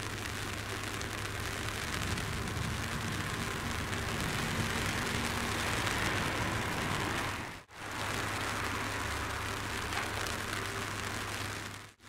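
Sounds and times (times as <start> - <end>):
rain falling on grass and trees: 0.0 - 12.0.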